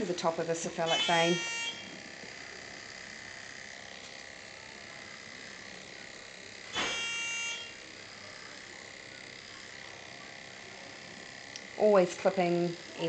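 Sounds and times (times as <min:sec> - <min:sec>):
electric clippers humming: 0:00.0 - 0:13.0.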